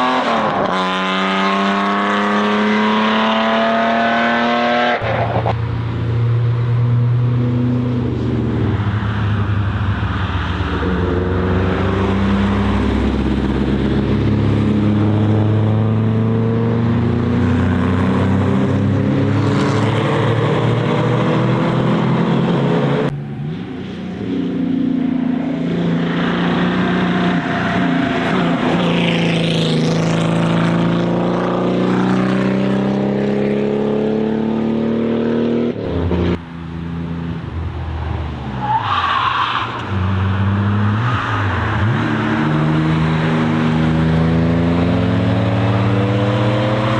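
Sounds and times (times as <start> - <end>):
race cars accelerating past: 0.0 - 46.9.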